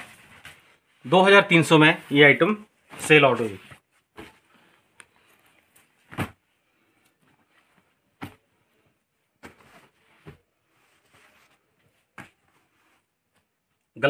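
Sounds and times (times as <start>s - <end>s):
cloth rustling and swishing: 0.0s - 13.7s.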